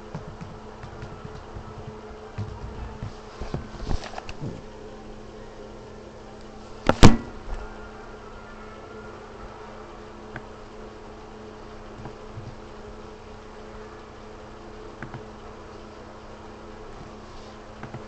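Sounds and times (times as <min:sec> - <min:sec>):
steady buzzing hum: 0:00.0 - 0:18.0.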